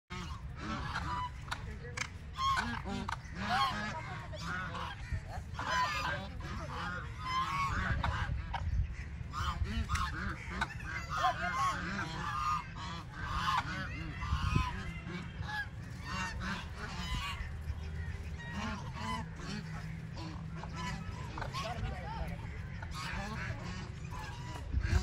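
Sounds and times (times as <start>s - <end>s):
geese honking: 0.1s - 25.0s.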